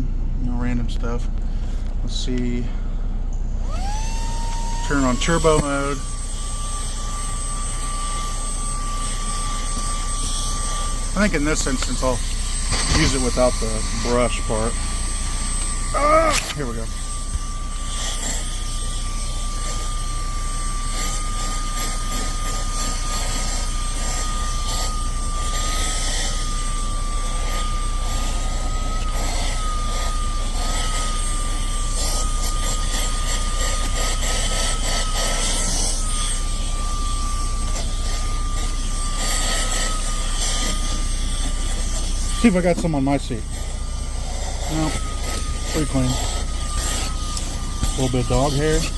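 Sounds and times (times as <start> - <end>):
handheld vacuum whine: 0.6 - 48.9.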